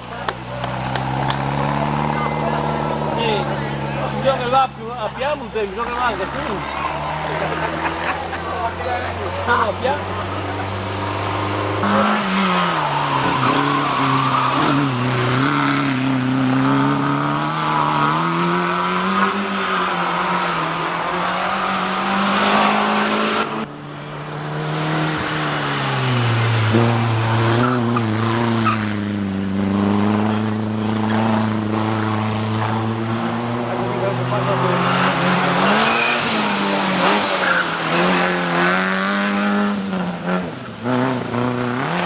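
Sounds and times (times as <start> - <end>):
car engine approaching: 0.0 - 42.0
racing car engine revving: 0.0 - 42.0.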